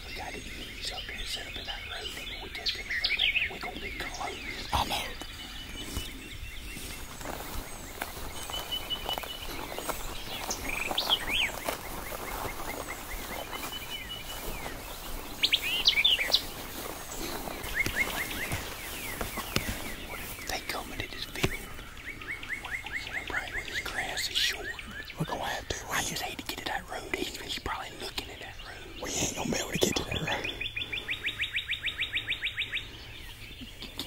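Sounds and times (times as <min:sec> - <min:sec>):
songbirds singing: 0:00.0 - 0:34.0.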